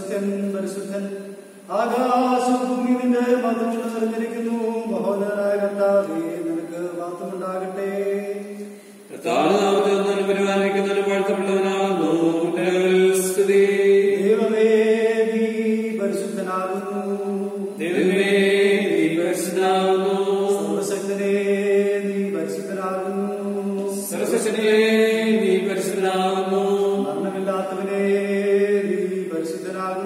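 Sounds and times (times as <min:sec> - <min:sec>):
slow sung chant: 0:00.0 - 0:30.0.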